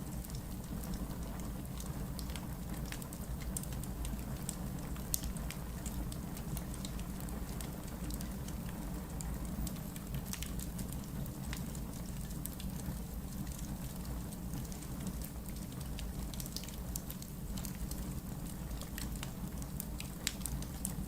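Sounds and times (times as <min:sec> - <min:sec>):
logs crackling in fireplace: 0:00.0 - 0:21.0
low rumble of flames: 0:00.0 - 0:21.0.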